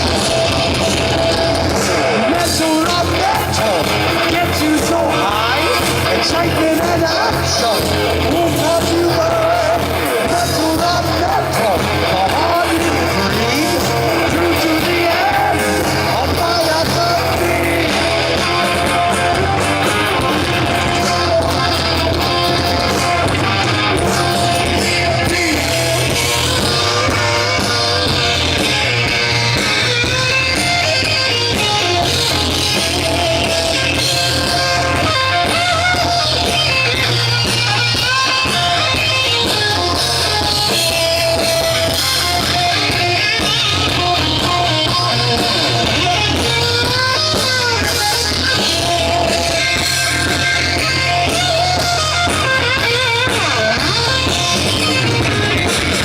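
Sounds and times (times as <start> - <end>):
bass guitar: 0.0 - 56.0
distorted electric guitars: 0.0 - 56.0
drum kit: 0.0 - 56.0
wavering guitar line: 0.0 - 56.0.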